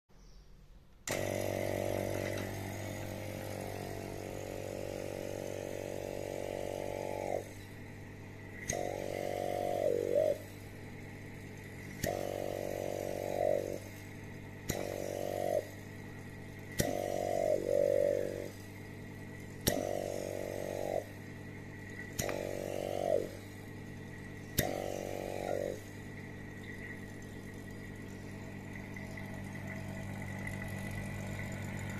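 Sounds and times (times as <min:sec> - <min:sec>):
electric vacuum pump humming: 0:00.9 - 0:31.9.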